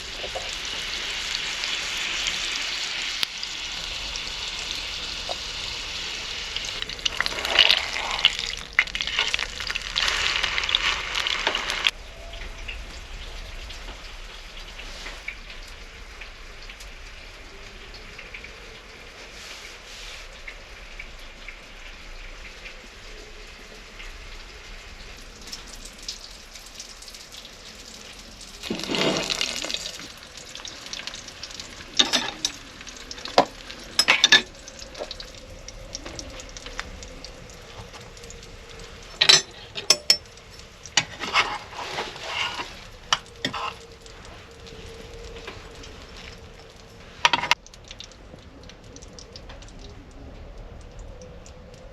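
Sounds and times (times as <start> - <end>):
food sizzling in a pan: 0.0 - 47.6.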